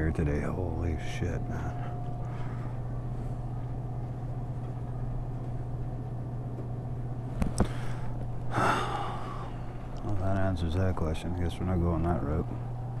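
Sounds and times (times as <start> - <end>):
refrigerator and ventilation hum: 0.0 - 13.0.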